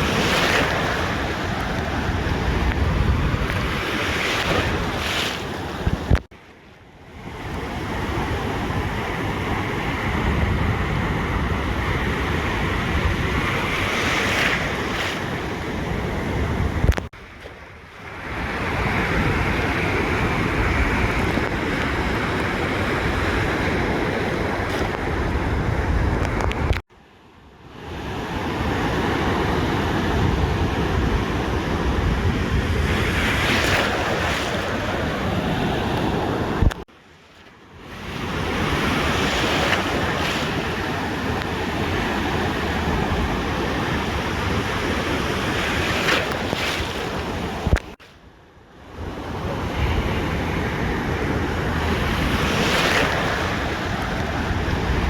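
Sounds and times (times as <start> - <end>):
wind on microphone: 0.0 - 6.3, 7.1 - 26.8, 28.5 - 36.9, 37.8 - 48.1, 48.9 - 55.0
ocean surf on beach: 0.0 - 55.0.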